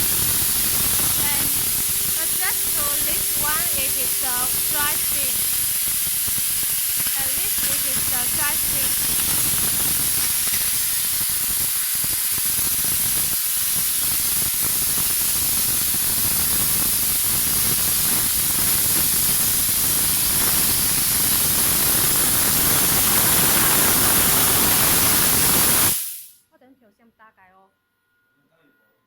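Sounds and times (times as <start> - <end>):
steam gun hissing: 0.0 - 26.4.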